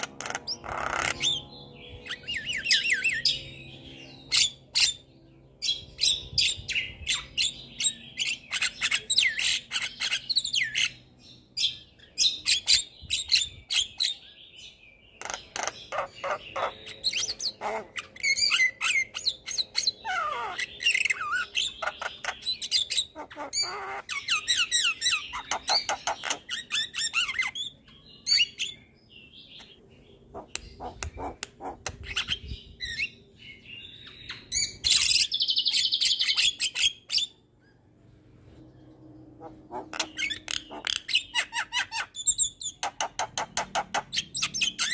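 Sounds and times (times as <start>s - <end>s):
bird singing varied song: 0.0s - 44.9s.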